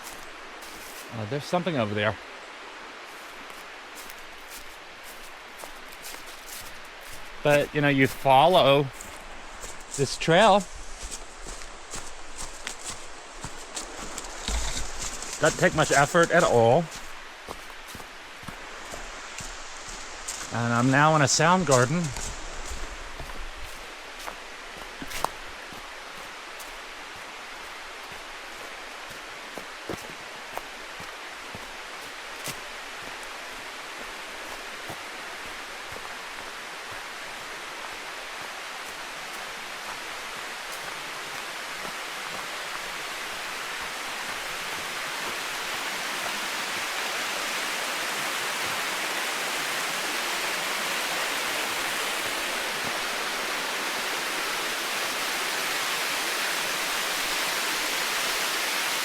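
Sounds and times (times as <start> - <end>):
rushing creek and waterfall: 0.0 - 59.0.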